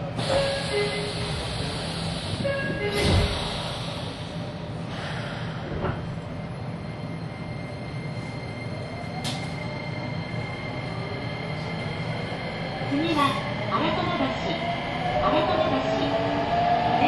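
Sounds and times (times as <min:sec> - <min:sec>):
train equipment low hum: 0:00.0 - 0:17.0.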